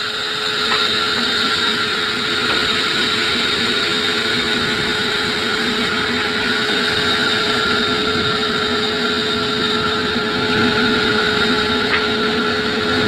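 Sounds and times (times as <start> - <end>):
sawmill saw cutting wood: 0.0 - 13.0.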